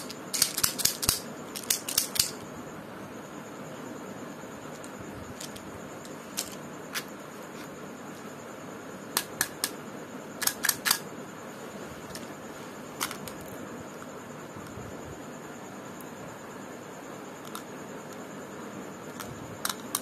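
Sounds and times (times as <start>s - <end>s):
steady low hiss: 0.0s - 19.9s.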